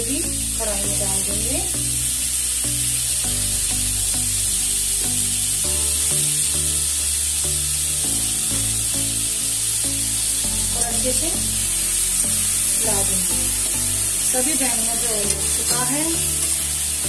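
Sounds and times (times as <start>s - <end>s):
background music of held notes: 0.0s - 17.0s
vegetables sizzling in oil: 0.0s - 17.0s.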